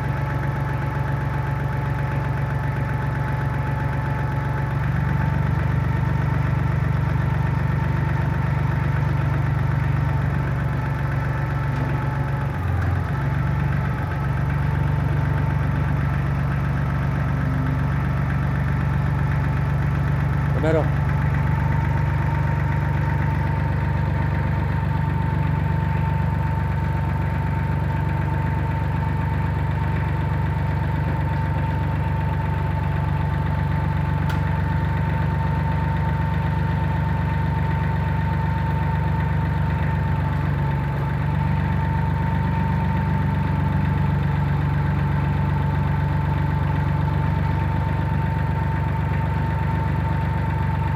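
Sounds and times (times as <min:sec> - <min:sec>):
tractor diesel engine idling: 0:00.0 - 0:50.9.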